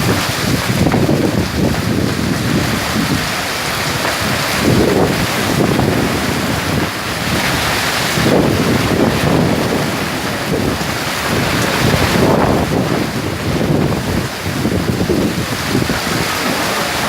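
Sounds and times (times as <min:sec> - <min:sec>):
heavy rain pouring: 0:00.0 - 0:17.0
wind buffeting microphone: 0:00.0 - 0:17.0.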